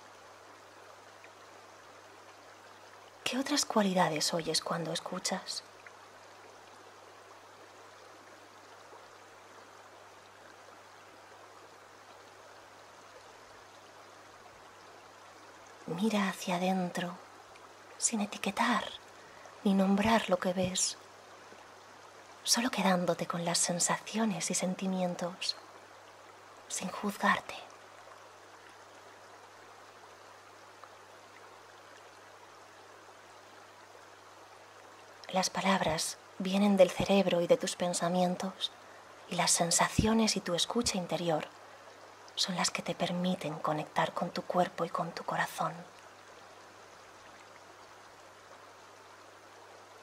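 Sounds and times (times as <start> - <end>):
stream flowing over pebbles: 0.0 - 50.0.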